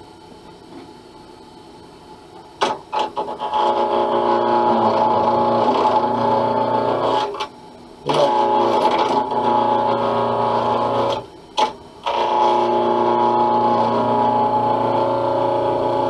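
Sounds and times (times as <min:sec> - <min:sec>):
lathe motor whining: 0:02.9 - 0:16.0.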